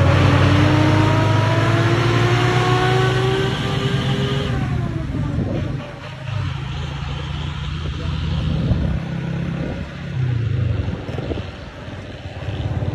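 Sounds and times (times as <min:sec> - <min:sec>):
truck engine running: 0:00.0 - 0:12.9.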